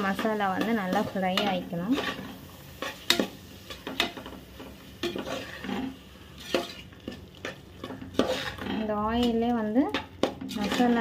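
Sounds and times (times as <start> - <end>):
spatula scraping a metal pot: 0.0 - 4.3, 5.0 - 11.0
food frying in oil: 0.0 - 11.0.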